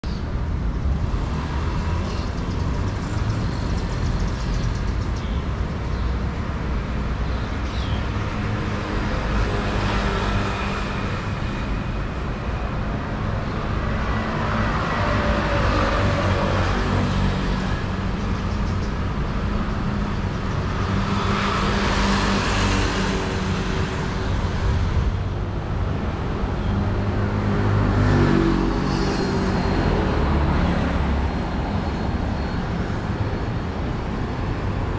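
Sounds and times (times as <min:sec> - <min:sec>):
rumble of vehicle engines: 0:00.0 - 0:34.9
vehicles passing: 0:00.0 - 0:34.9.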